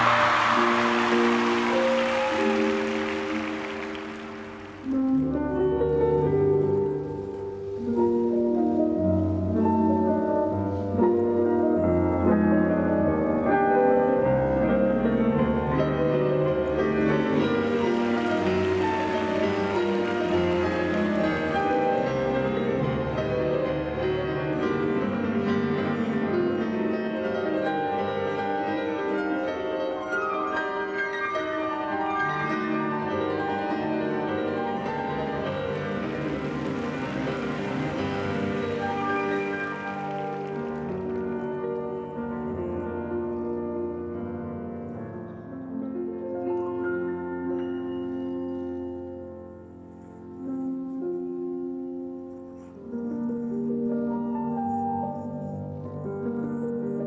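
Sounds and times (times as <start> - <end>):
solo classical piano: 0.0 - 57.0.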